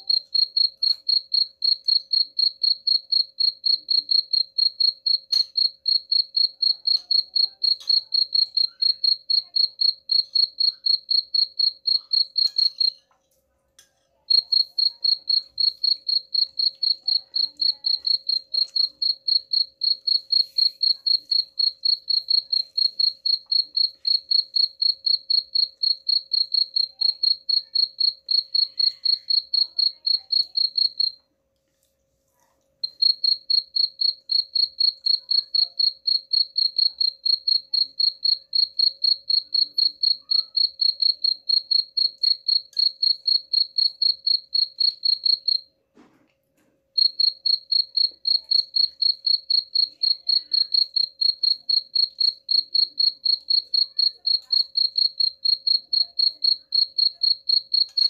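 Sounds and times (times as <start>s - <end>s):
cricket chirping: 0.0s - 13.0s, 14.3s - 31.2s, 32.8s - 45.7s, 47.0s - 58.0s.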